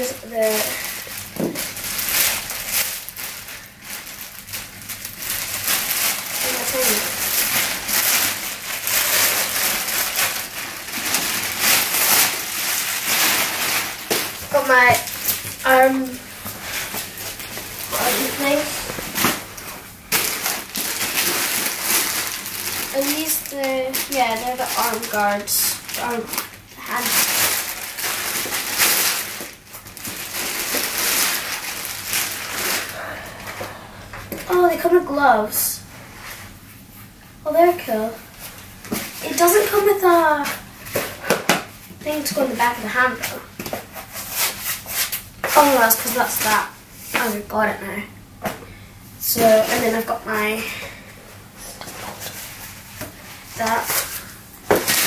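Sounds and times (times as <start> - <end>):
plastic packaging crinkling: 0.0 - 33.5, 37.9 - 47.4, 51.6 - 55.0.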